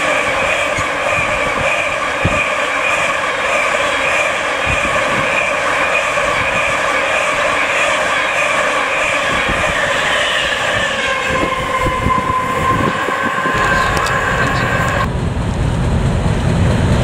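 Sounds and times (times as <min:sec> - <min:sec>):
train wheels rolling on rail: 0:00.0 - 0:17.0.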